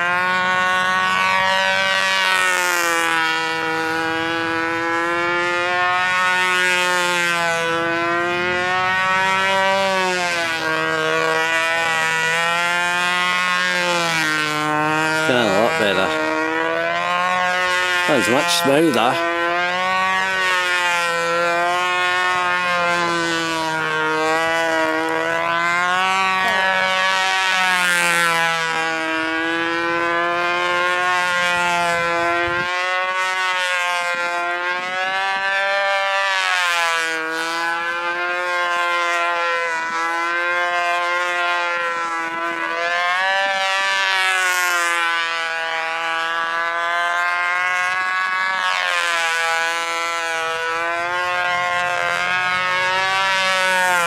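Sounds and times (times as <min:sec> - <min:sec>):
model aeroplane engine whine: 0:00.0 - 0:54.0.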